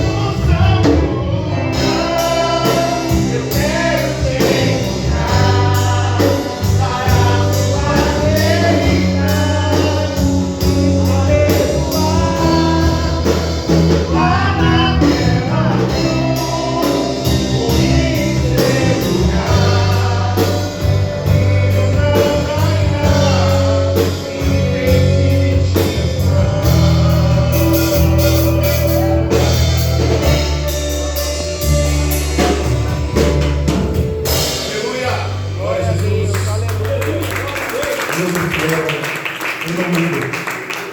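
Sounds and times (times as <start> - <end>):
low bass notes: 0.0 - 37.8
drum kit: 0.0 - 40.9
gospel singing: 0.0 - 40.9.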